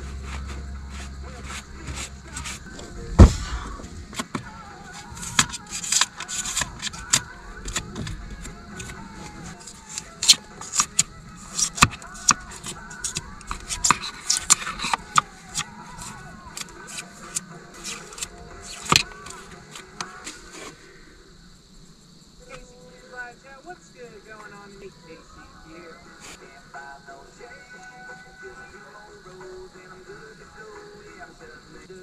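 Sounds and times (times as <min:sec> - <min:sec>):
background music: 0:00.0 - 0:32.0.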